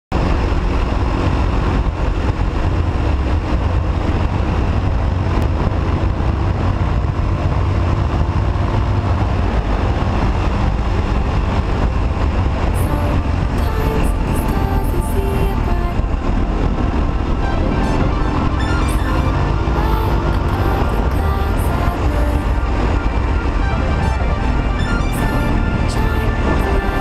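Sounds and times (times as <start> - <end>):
wind rumble on microphone: 0.1 - 27.0
motorcycle engine running at speed: 0.2 - 27.0.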